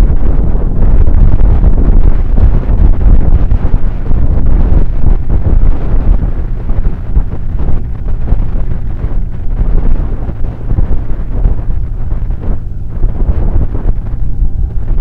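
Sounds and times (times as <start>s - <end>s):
road noise: 0.0s - 15.0s
wind buffeting microphone: 0.0s - 15.0s
motorcycle engine: 2.2s - 15.0s.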